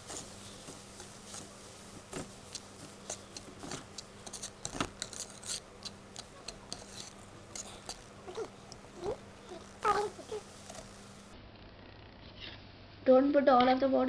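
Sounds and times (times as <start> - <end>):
faint steady hum: 0.0 - 12.2.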